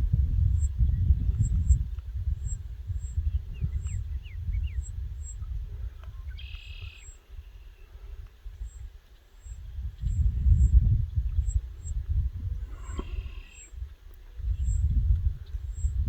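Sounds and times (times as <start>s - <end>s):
low rumble on microphone: 0.0s - 16.0s
birds chirping: 2.4s - 12.0s, 12.6s - 16.0s.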